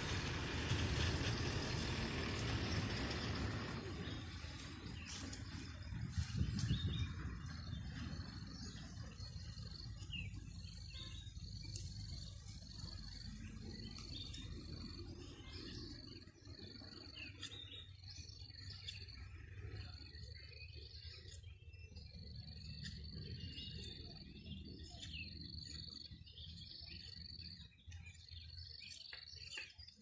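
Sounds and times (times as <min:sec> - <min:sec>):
low rumble: 0:00.0 - 0:27.6
birds chirping: 0:00.0 - 0:30.0.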